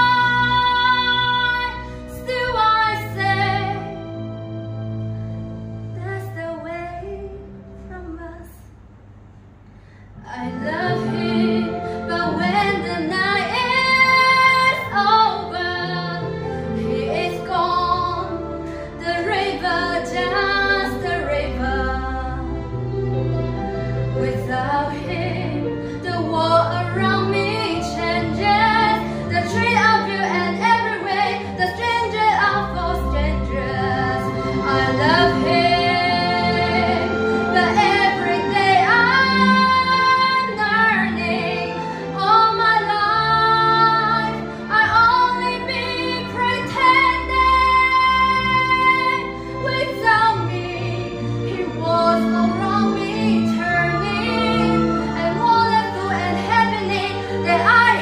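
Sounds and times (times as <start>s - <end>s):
woman singing: 0.0s - 4.0s, 6.0s - 8.6s, 10.2s - 22.5s, 24.2s - 58.0s
backing music: 0.0s - 58.0s.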